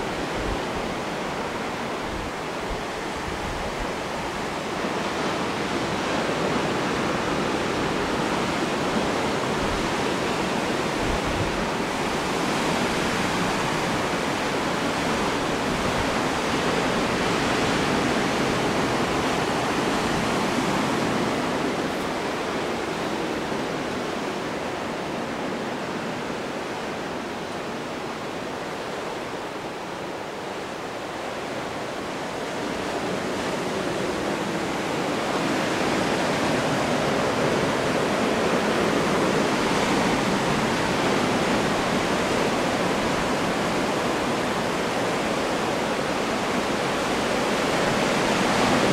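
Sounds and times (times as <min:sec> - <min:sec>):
water rushing: 0:00.0 - 0:48.9.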